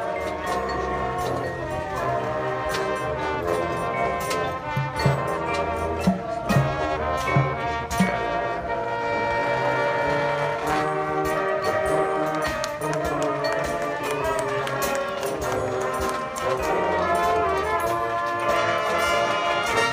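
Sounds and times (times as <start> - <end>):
brass section sustained chords: 0.0 - 19.9.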